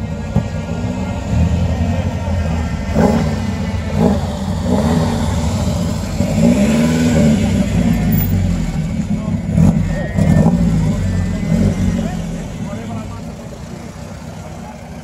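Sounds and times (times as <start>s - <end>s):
sports car engine accelerating: 0.0s - 15.0s.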